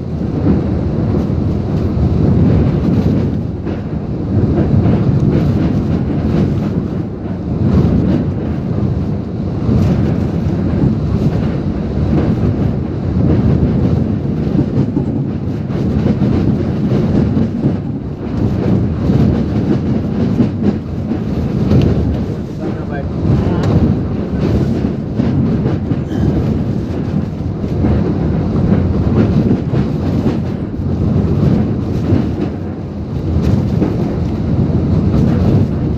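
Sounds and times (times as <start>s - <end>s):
heavy rain: 0.0s - 35.9s
strong gusting wind: 0.0s - 35.9s.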